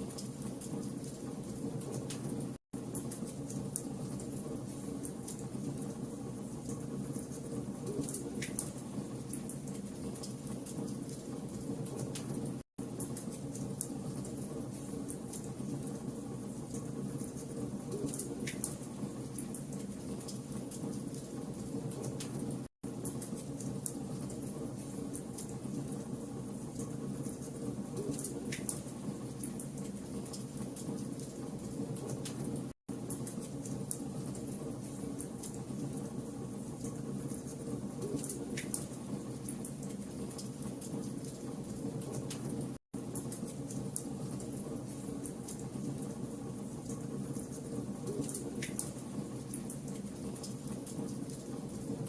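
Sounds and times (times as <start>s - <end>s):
fire crackling and popping: 6.6s - 15.9s, 16.7s - 26.0s, 26.7s - 46.1s, 46.8s - 51.9s.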